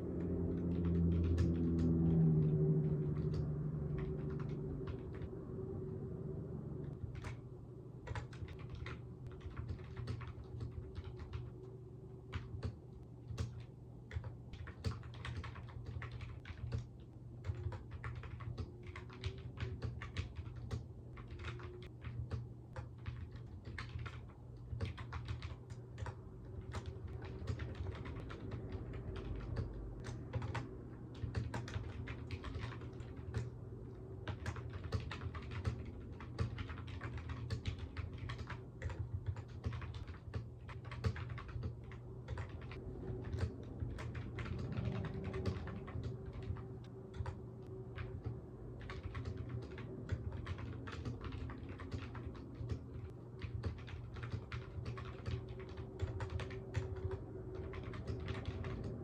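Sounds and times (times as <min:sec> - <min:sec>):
computer keyboard typing: 0:00.0 - 0:05.3, 0:06.8 - 0:59.0.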